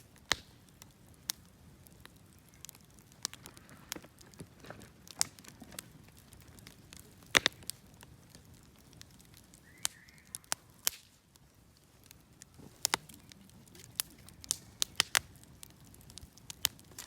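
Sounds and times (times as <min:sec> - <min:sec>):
bonfire crackling and popping: 0:00.0 - 0:17.0.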